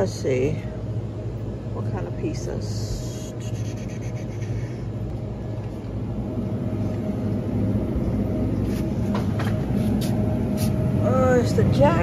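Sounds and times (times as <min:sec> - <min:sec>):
faint constant tone: 0:00.0 - 0:12.0
freezer low mechanical hum: 0:00.0 - 0:12.0.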